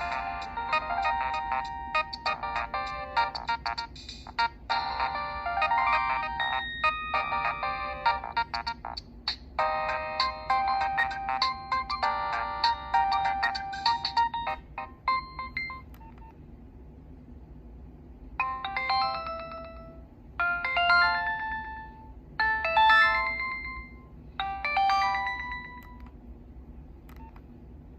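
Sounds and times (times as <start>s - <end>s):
polyphonic phone ringtones: 0.0s - 8.9s, 9.6s - 15.9s, 18.4s - 25.8s.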